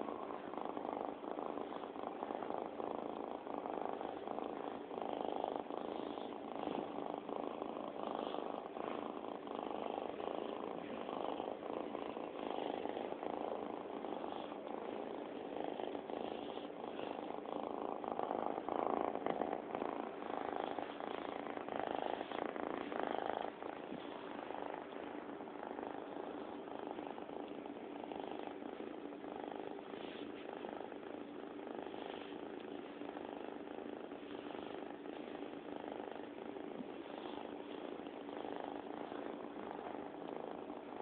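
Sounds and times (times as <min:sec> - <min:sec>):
cat purring: 0:00.0 - 0:41.0.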